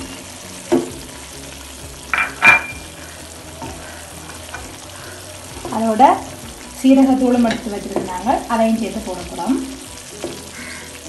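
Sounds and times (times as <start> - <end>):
prawns sizzling in a frying pan: 0.0 - 11.0.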